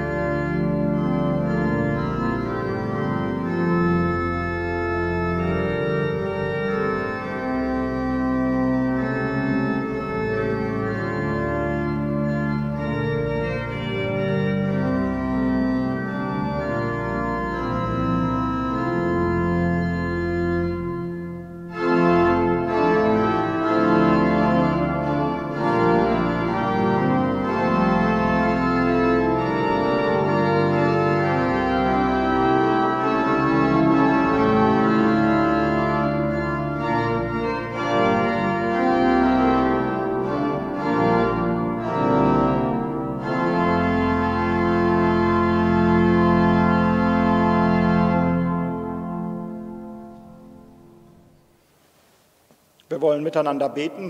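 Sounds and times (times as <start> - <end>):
pipe organ chords: 0.0 - 51.7.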